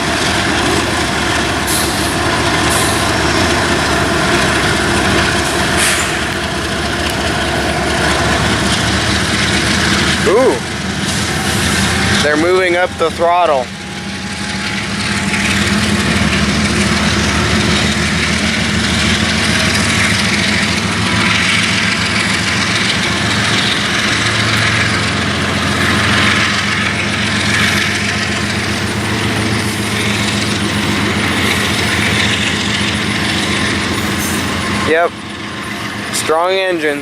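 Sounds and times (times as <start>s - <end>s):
locomotive engine drone: 0.0s - 37.0s
wheels rumbling on rails: 0.0s - 37.0s.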